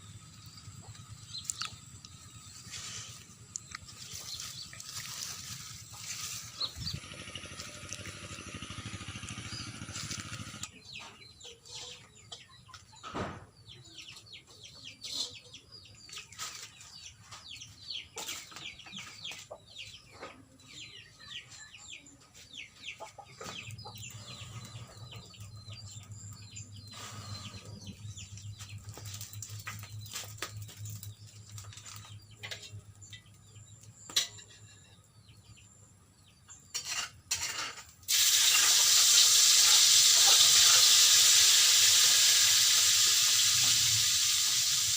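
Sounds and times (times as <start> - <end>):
chickens clucking and chirping: 0.0 - 44.9.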